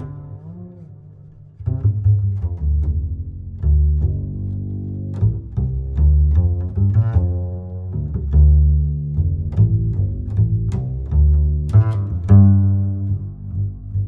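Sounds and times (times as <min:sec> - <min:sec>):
plucked bass strings music: 0:00.0 - 0:14.0.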